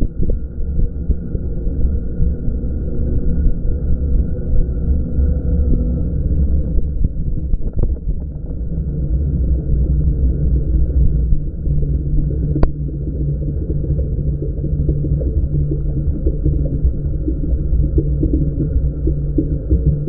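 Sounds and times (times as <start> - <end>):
electric bike riding rumble: 0.0 - 20.0.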